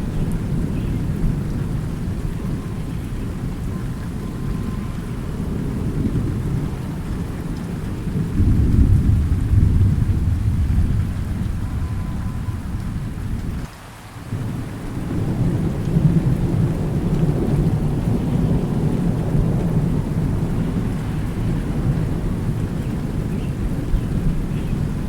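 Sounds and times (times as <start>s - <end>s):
low rolling thunder: 0.0s - 13.7s, 14.3s - 25.0s
steady rain: 0.0s - 25.0s.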